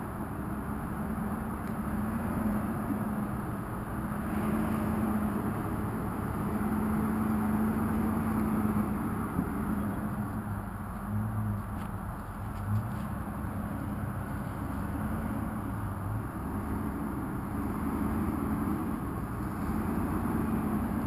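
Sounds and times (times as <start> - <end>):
truck engine running at low revs: 0.0 - 21.0.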